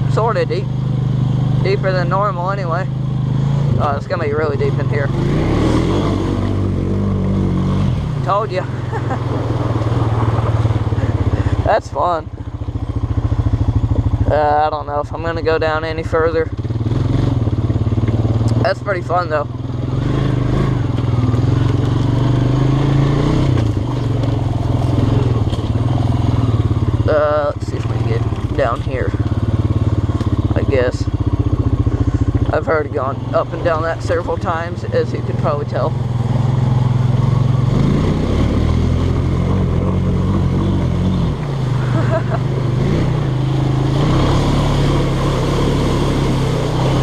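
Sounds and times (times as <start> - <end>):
atv engine running under throttle: 0.0 - 47.0.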